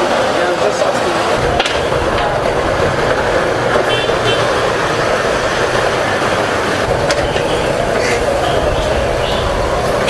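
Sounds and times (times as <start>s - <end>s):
crowd noise: 0.0s - 10.0s
traffic: 0.0s - 10.0s.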